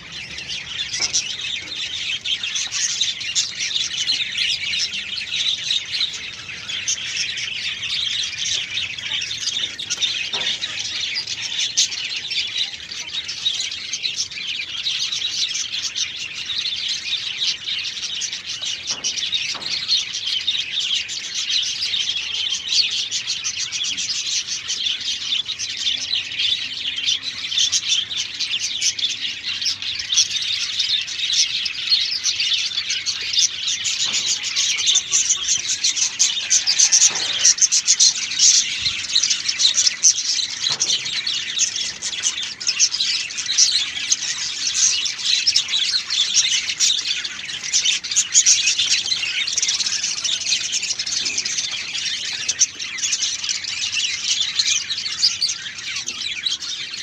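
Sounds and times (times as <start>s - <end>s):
many small birds chirping: 0.0s - 57.0s.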